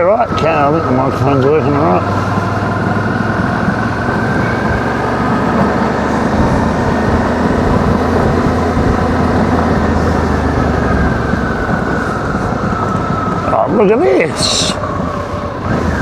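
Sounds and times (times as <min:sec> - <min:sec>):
motorcycle engine running: 0:00.3 - 0:16.0.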